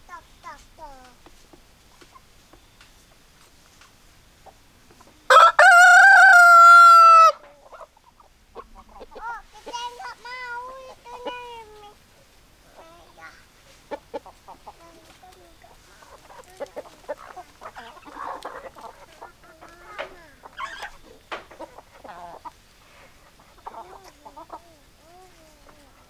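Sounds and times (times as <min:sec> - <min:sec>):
hens clucking: 0:04.4 - 0:26.0.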